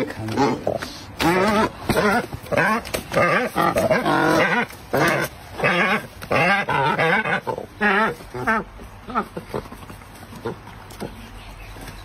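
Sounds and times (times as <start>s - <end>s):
cormorants calling: 0.3s - 11.2s.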